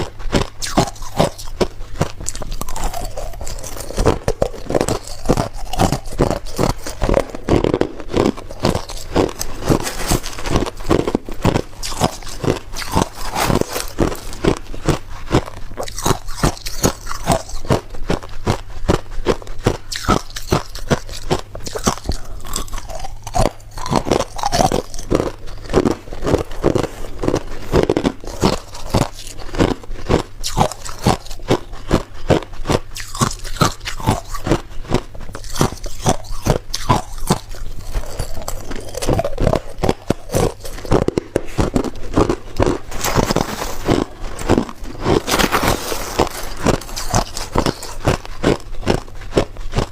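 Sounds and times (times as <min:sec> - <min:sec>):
ice being chewed: 0:00.0 - 0:49.9.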